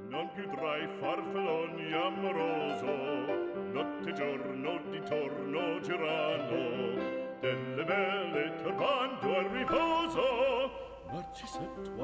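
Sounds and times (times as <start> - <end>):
opera singer with vibrato: 0.0 - 12.0.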